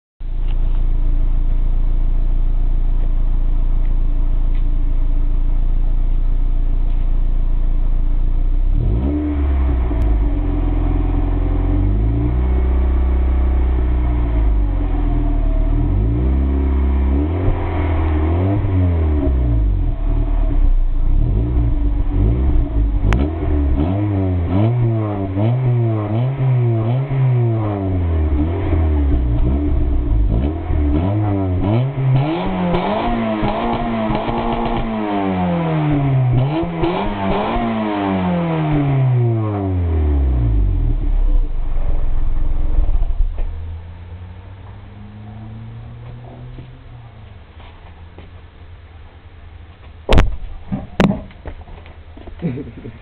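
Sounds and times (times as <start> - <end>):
car engine idling and revving: 0.2 - 53.0.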